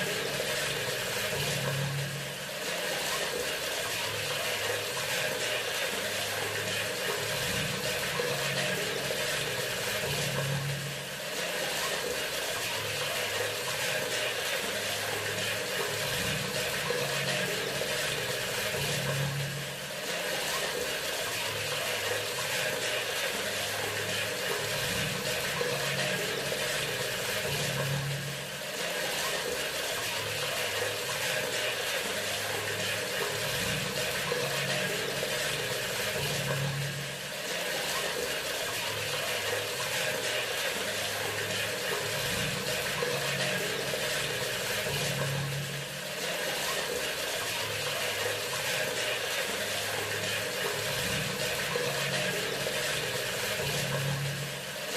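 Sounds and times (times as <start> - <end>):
water running from sink faucet: 0.0 - 54.9.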